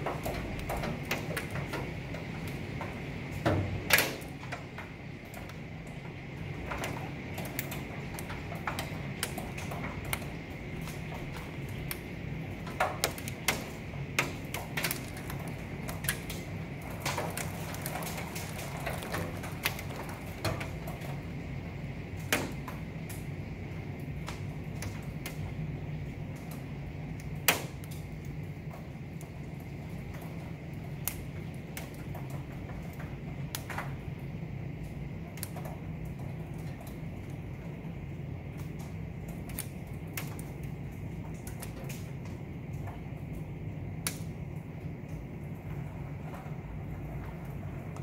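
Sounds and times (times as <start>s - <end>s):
hailstones ticking on glass: 0.0s - 48.0s
torrential rain on window: 0.0s - 48.0s.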